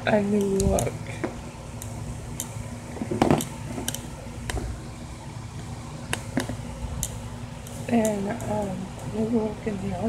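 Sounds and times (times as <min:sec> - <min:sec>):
electric fan humming: 0:00.0 - 0:10.0.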